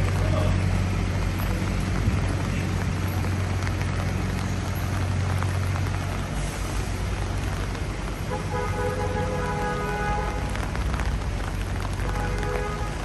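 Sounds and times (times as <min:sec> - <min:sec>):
city traffic: 0:00.0 - 0:13.0
low engine rumble: 0:00.0 - 0:13.0
rain hiss: 0:00.0 - 0:13.0.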